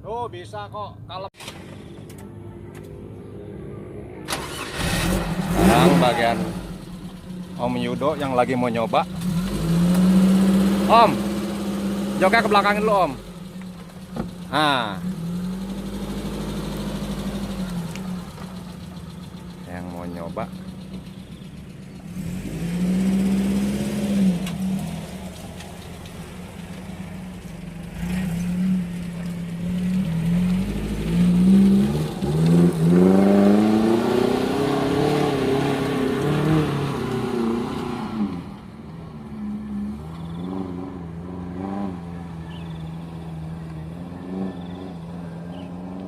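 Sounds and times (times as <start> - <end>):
car engine revving: 1.4 - 46.0.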